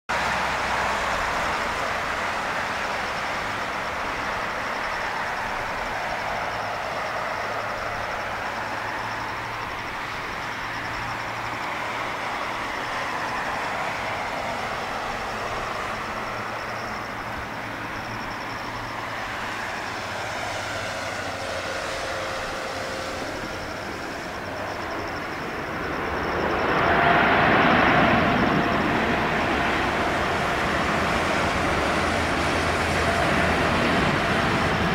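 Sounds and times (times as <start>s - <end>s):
jet engines rushing: 0.1s - 34.9s
thin jet whine: 0.1s - 34.9s.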